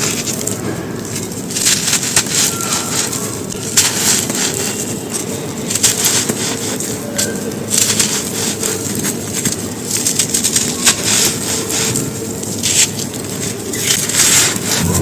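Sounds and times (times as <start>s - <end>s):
chalk crunching and crackling: 0.0s - 15.0s
low background noise: 0.0s - 15.0s.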